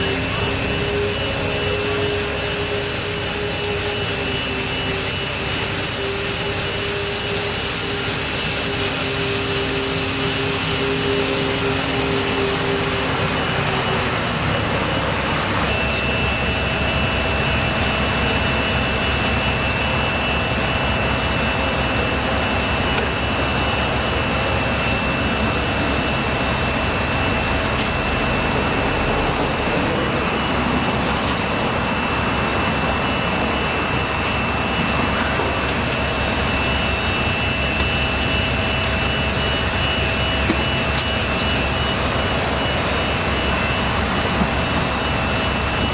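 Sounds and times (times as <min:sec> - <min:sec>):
machinery rushing noise: 0:00.0 - 0:45.9
steady high whine: 0:00.0 - 0:45.9.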